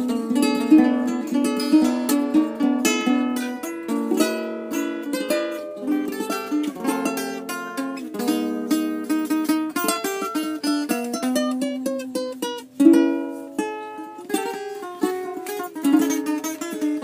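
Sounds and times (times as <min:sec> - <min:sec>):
guitar plucking: 0:00.0 - 0:17.0
ukulele plucking: 0:00.0 - 0:17.0.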